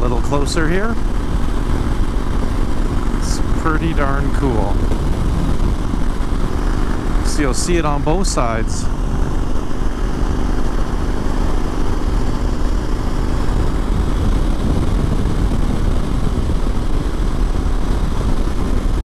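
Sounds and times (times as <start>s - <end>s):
motorcycle engine drone: 0.0s - 19.0s
wind rush over microphone: 0.0s - 19.0s.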